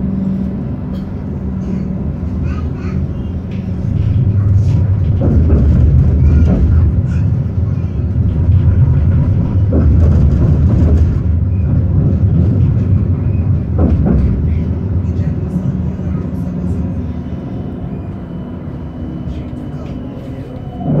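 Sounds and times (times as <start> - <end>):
tram rumbling on rails: 0.0 - 21.0.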